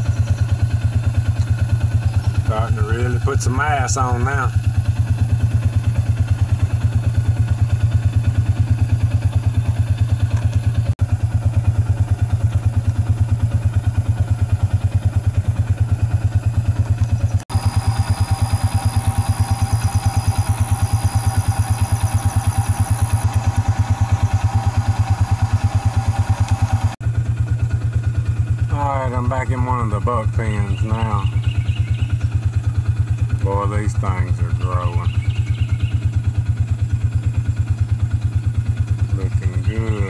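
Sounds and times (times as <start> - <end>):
engine idling with rapid chug: 0.0 - 40.0.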